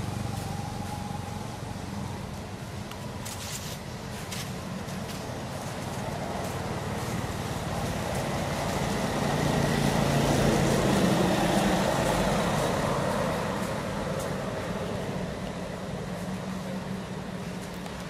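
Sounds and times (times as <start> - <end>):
vehicle passing by: 0.0 - 2.6, 3.3 - 18.0.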